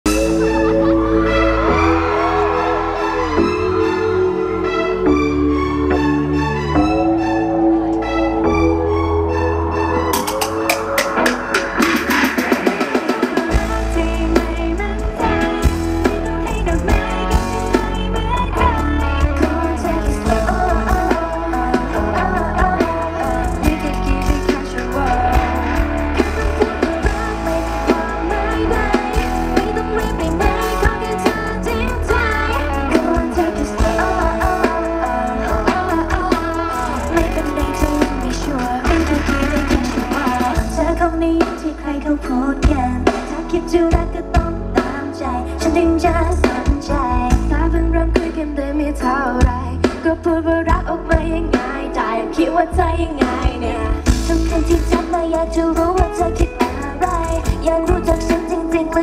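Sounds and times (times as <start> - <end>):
guitar: 0.0 - 59.0
live pop-rock music: 0.0 - 59.0
drum kit: 10.1 - 48.6, 49.4 - 59.0
woman singing: 10.3 - 59.0.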